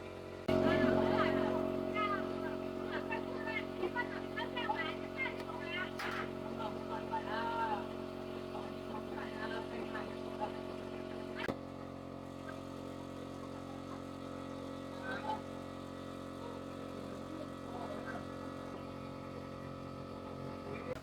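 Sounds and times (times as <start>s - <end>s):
small engine idling: 0.0s - 21.0s.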